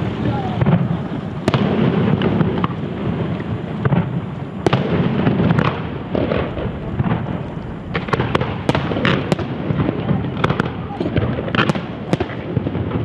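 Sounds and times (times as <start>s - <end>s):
rumble of firework bursts: 0.0s - 13.0s
sharp firework cracks: 0.0s - 13.0s.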